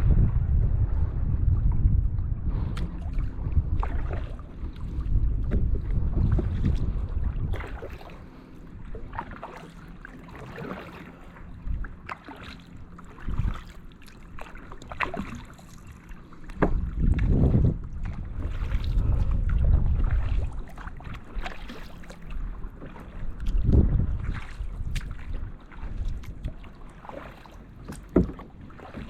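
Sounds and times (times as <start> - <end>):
wind buffeting microphone: 0.0 - 9.6, 10.4 - 12.2, 12.8 - 26.8
paddle strokes splashing: 2.4 - 29.0.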